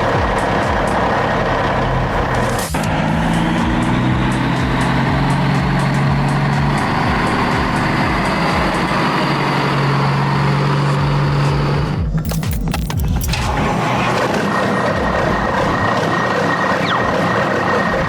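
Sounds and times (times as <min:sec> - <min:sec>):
heavy vehicle engine droning: 0:00.0 - 0:18.0.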